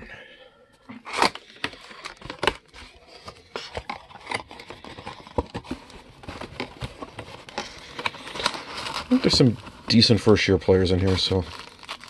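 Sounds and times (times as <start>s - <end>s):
cardboard and paper rustling: 1.0s - 12.0s.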